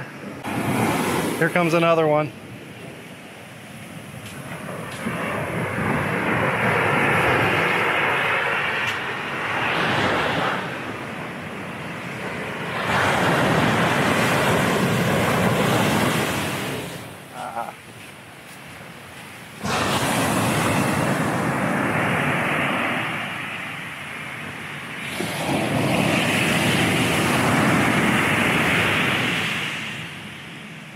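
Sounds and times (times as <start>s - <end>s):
waves crashing on beach: 0.0s - 30.9s.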